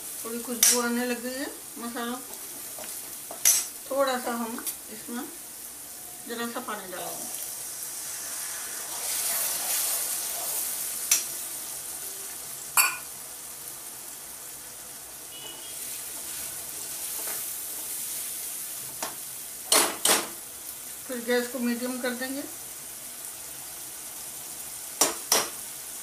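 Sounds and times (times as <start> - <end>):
masala sizzling in hot oil: 0.0 - 26.0.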